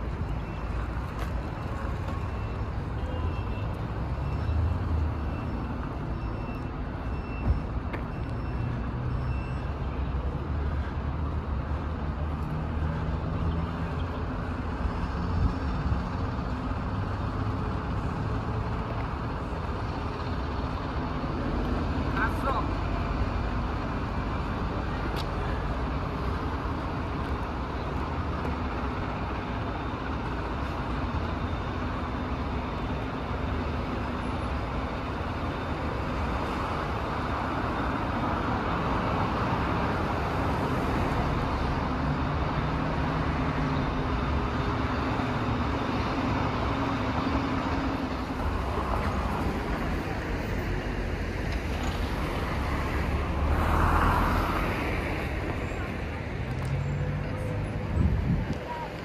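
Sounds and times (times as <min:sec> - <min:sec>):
street traffic passing: 0:00.0 - 0:59.0.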